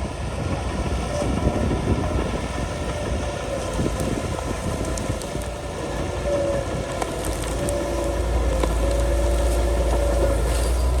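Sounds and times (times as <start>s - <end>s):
bulldozer engine rumbling: 0.0s - 11.0s.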